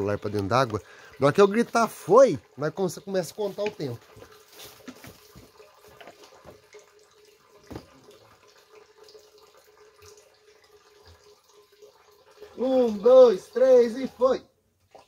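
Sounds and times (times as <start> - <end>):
water pouring from a spout: 0.0 - 15.0.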